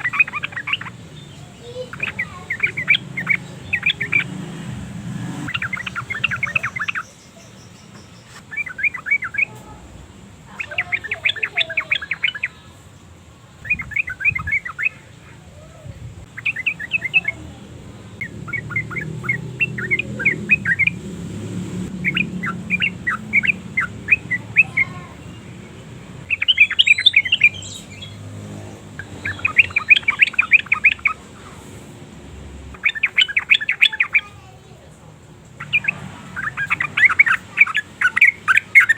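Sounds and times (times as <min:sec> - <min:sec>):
bird chattering: 0:00.0 - 0:12.8, 0:13.6 - 0:38.9.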